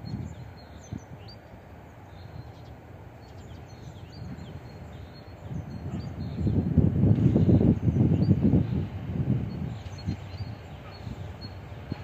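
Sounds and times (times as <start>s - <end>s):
small birds chirping: 0.0s - 6.7s, 7.3s - 12.0s.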